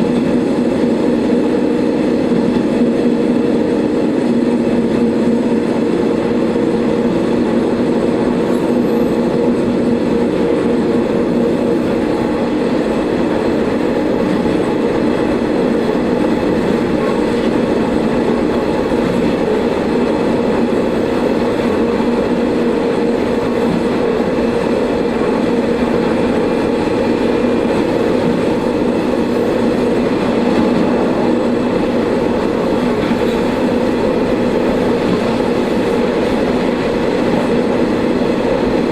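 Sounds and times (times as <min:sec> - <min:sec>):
train engine drone: 0:00.0 - 0:38.9
wheels rumbling on rails: 0:00.0 - 0:38.9.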